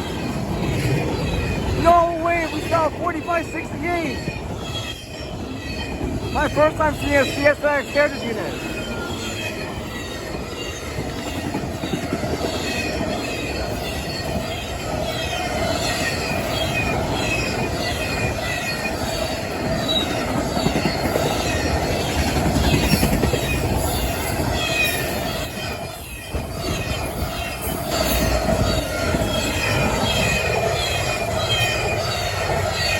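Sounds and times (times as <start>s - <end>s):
train wheels rumbling on rail: 0.0s - 32.9s.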